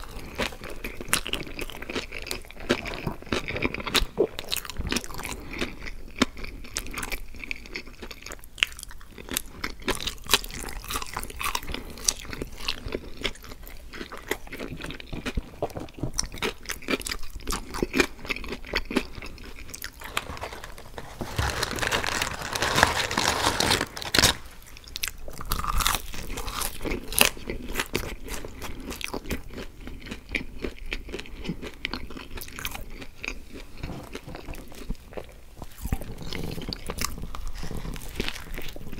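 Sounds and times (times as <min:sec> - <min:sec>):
person chewing fries: 0:00.0 - 0:38.9.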